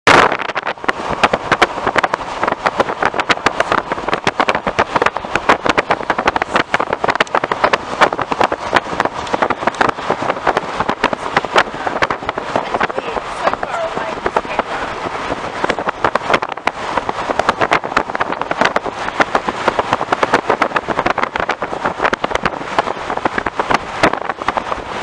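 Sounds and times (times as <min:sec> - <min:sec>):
rapid crackling and buffeting: 0:00.0 - 0:25.0
car driving: 0:00.1 - 0:25.0.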